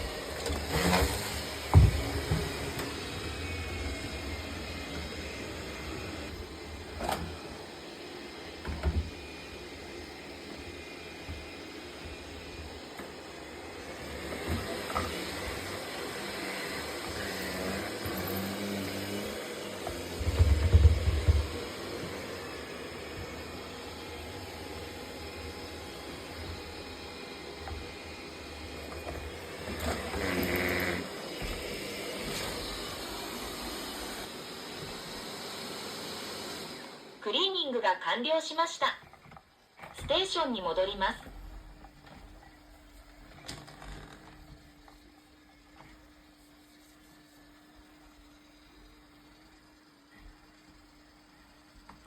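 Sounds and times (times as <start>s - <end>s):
robot vacuum running: 0.0s - 52.0s.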